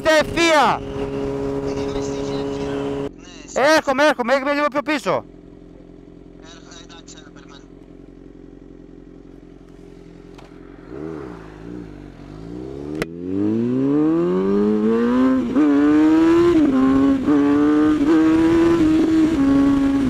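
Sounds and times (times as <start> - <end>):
motorcycle engine revving: 0.0 - 3.2, 5.2 - 20.0.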